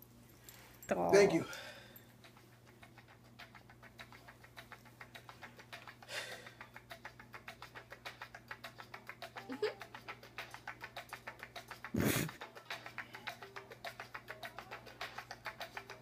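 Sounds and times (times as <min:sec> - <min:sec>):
faint music with ticking beat: 0:00.4 - 0:16.0.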